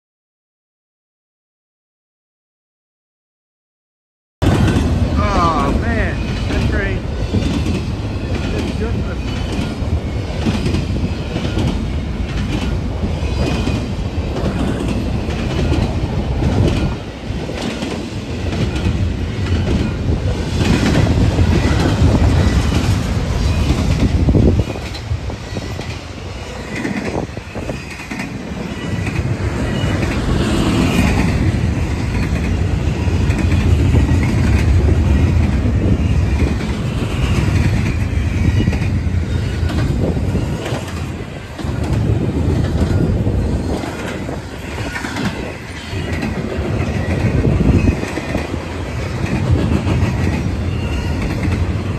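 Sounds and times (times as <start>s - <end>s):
freight train rumbling: 4.4s - 51.9s
wheels clacking over rail joints: 4.4s - 51.9s.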